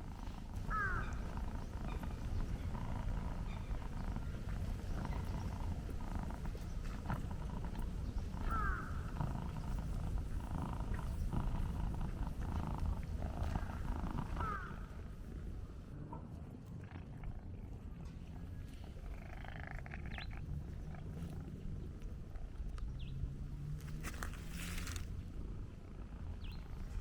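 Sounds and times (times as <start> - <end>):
cat purring: 0.0 - 23.3, 24.0 - 27.0.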